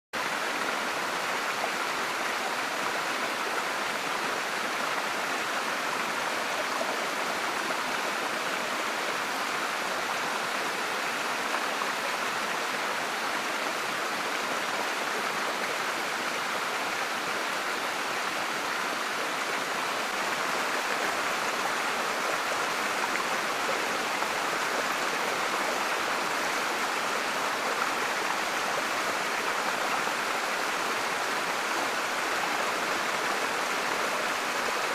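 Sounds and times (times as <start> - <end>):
running water rushing: 0.2 - 34.9.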